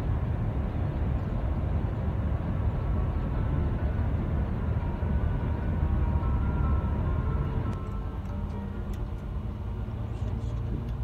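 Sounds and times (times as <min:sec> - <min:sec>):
coach engine and road rumble: 0:00.0 - 0:11.0.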